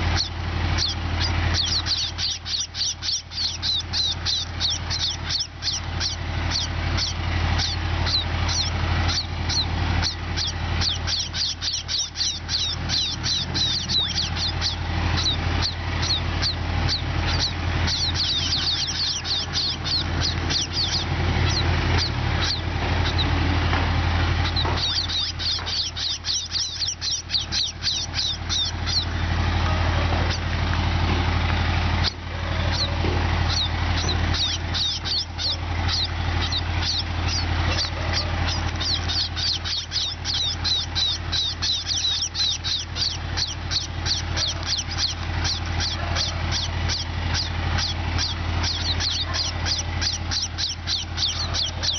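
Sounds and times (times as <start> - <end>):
sparrows chirping: 0.0 - 51.9
steady low hum: 0.0 - 51.9.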